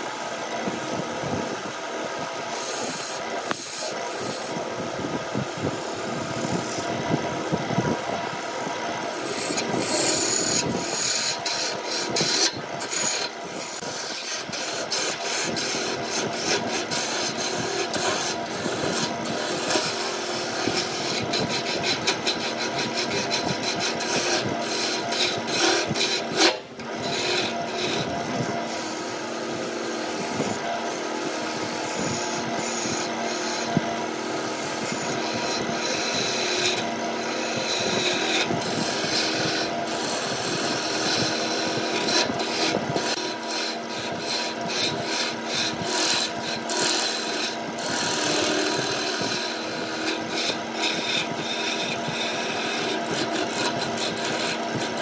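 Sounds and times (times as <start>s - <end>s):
lathe motor hum: 0.0s - 55.0s
lathe tool cutting wood: 0.0s - 55.0s.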